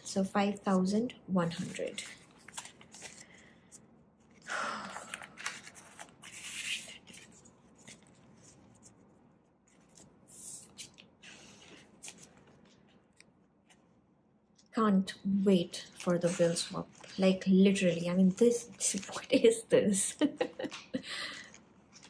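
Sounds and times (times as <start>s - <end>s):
banknotes rustling and sliding: 0.4s - 13.9s, 15.3s - 22.0s.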